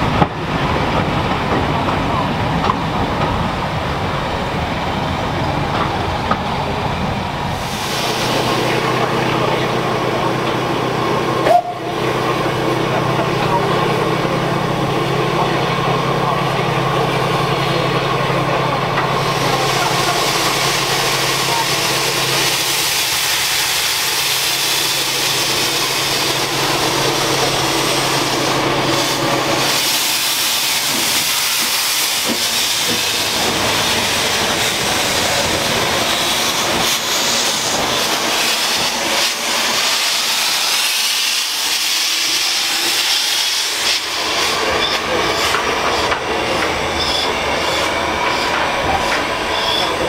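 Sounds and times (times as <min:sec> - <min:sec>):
steam locomotive hissing: 0:00.0 - 0:50.0.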